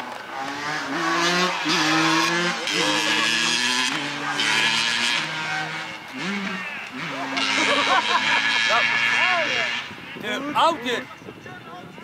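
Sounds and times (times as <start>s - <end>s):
dirt bike engine revving: 0.0s - 11.1s.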